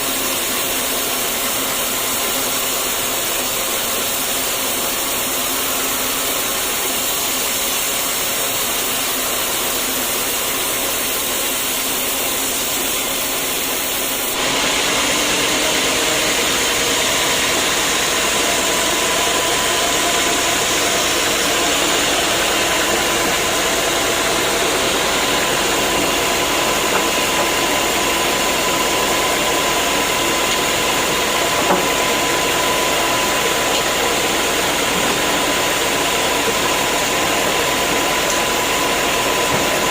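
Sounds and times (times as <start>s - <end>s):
sawmill machinery running: 0.0s - 39.9s
steady machine whine: 0.0s - 39.9s.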